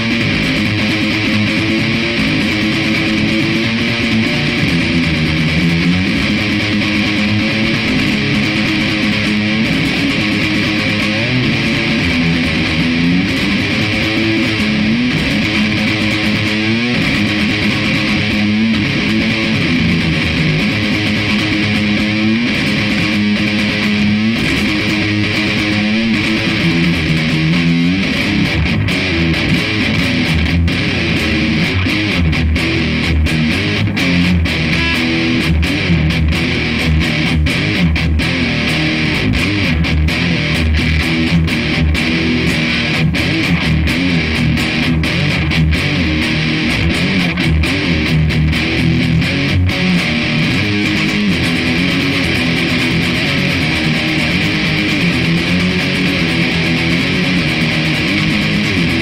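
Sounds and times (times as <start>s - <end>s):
electric guitar strumming riffs: 0.0s - 59.0s.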